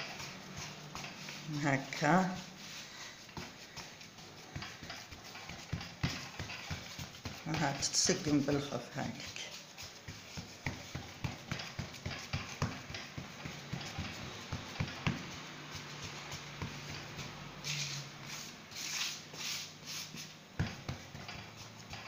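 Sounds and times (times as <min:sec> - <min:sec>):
palm slapping dough: 0:00.0 - 0:22.0
rubbing strokes on dough: 0:00.0 - 0:22.0.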